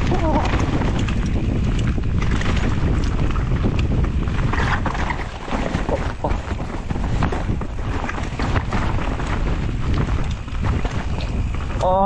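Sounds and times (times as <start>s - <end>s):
bike rattling over rough ground: 0.0s - 12.0s
wind buffeting microphone: 0.0s - 12.0s.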